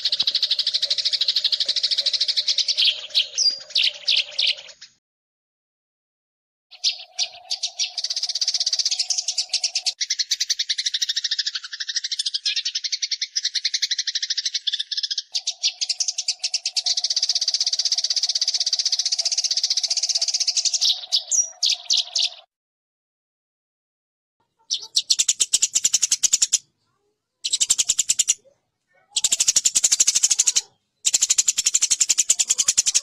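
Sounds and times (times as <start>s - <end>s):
sparrows chattering harshly: 0.0s - 5.0s, 6.7s - 22.5s, 24.4s - 33.0s.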